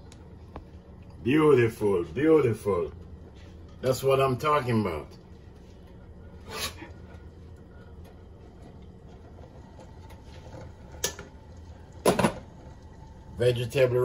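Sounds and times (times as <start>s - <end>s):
low kitchen hum: 0.0s - 14.0s.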